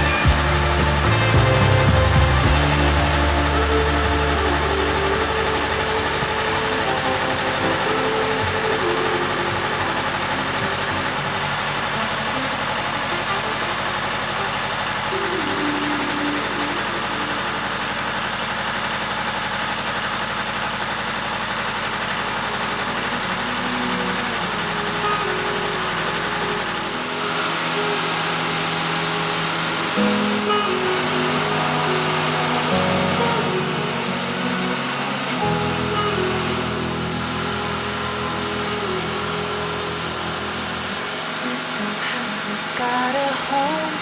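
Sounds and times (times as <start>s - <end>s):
engine idling: 0.0s - 43.3s.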